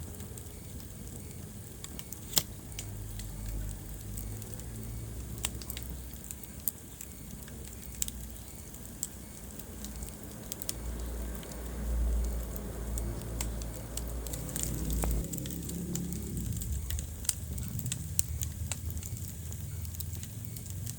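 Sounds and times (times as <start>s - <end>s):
low rumble of flame: 0.0s - 20.9s
wood fire crackling and popping: 0.0s - 20.9s.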